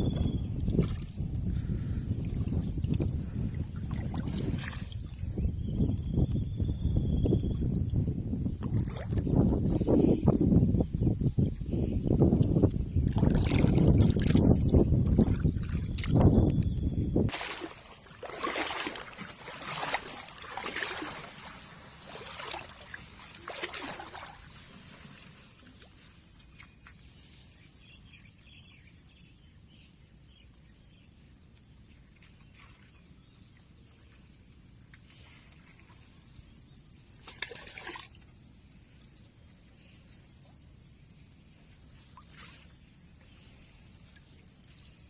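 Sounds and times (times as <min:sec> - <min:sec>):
water splashing and sloshing: 0:00.0 - 0:06.3, 0:07.4 - 0:10.6, 0:11.2 - 0:28.1, 0:31.6 - 0:45.0.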